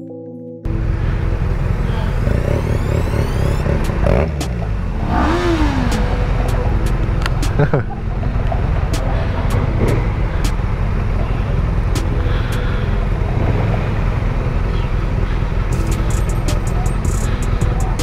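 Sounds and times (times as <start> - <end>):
city traffic: 0.6 - 18.0
motorcycle engines idling: 0.7 - 18.0.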